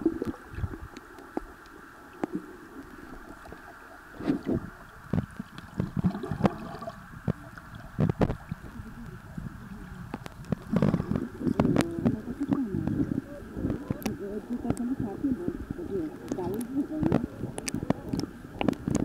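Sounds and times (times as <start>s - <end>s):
seawater sloshing and gurgling: 0.0s - 19.0s.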